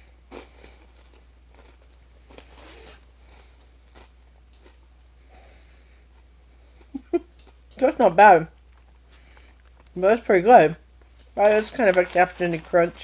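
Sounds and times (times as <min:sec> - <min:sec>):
crunching and chewing snack: 0:00.0 - 0:07.8, 0:08.6 - 0:10.0, 0:11.0 - 0:13.0.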